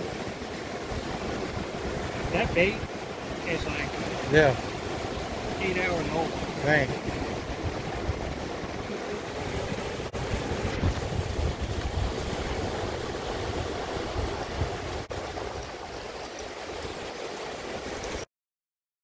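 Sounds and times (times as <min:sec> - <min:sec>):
wind rumble on microphone: 0:00.0 - 0:18.2
ocean surf breaking: 0:00.0 - 0:18.3.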